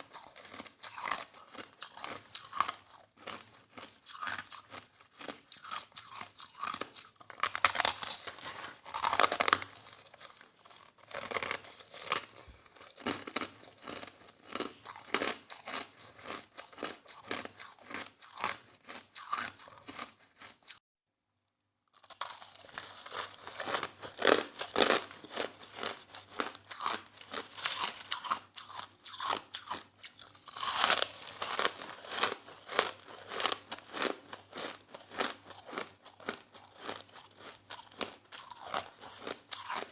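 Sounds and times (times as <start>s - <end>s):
crushed ice being chewed: 0.0s - 20.8s, 21.9s - 39.9s.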